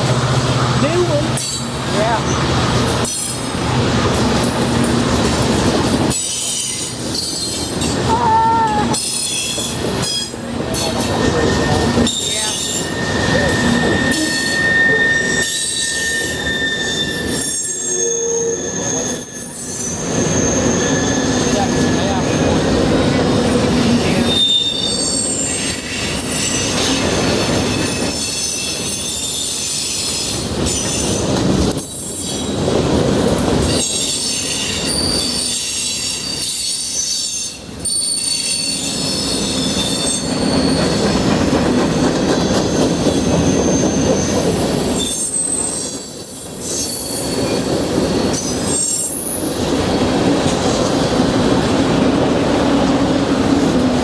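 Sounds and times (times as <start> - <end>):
freight train rumble: 0.0 - 54.0
train wheels squealing on rails: 1.4 - 54.0.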